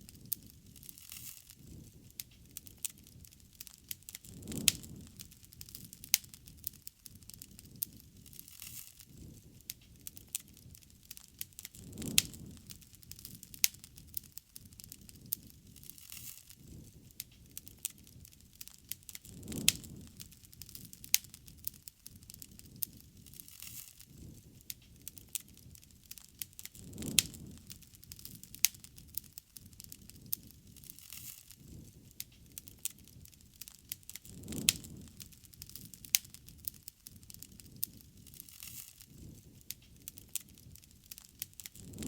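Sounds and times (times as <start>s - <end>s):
bonfire crackling and popping: 0.0s - 42.0s.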